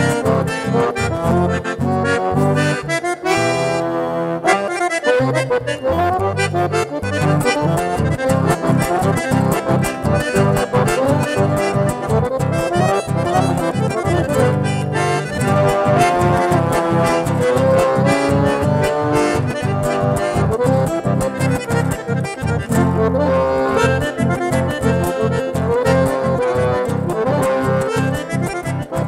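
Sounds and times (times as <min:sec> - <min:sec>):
acoustic guitar: 0:00.0 - 0:29.0
button accordion melody: 0:00.0 - 0:29.0.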